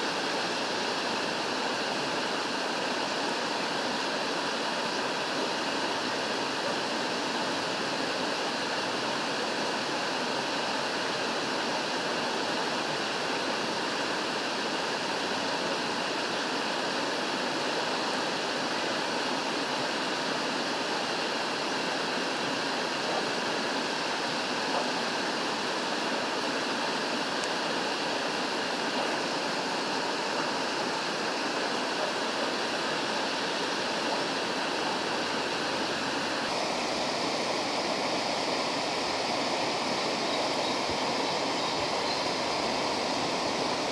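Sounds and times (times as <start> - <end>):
rushing water: 0.0 - 43.9.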